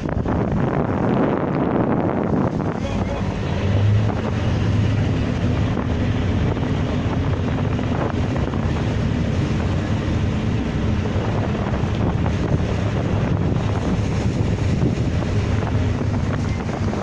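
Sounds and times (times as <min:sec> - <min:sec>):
boat engine drone: 0:00.0 - 0:17.0
wash of waves: 0:00.0 - 0:17.0
wind buffeting microphone: 0:00.0 - 0:17.0.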